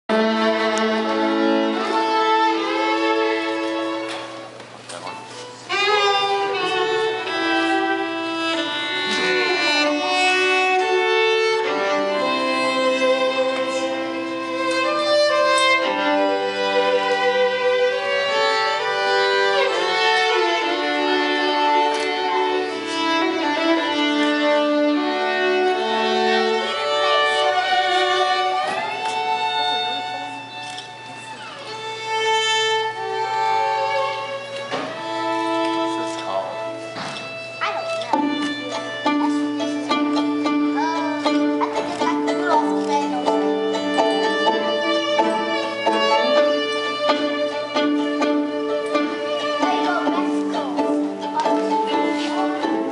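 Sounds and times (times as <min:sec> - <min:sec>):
two violins playing in harmony: 0:00.0 - 0:52.9.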